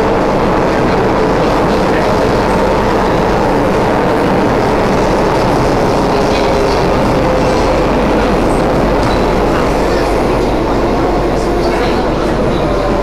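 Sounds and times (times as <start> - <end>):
rush of wheels on rail: 0.0 - 13.0.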